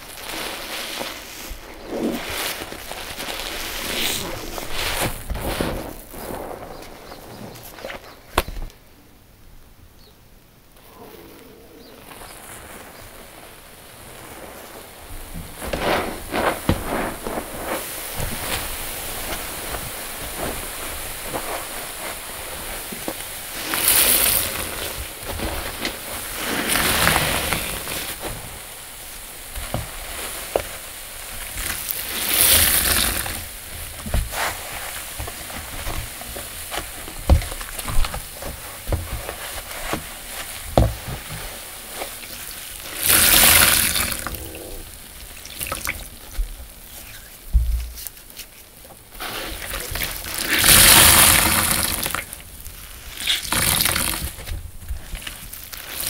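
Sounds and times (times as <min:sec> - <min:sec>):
wet sponges squelching: 0:10.8 - 0:56.0.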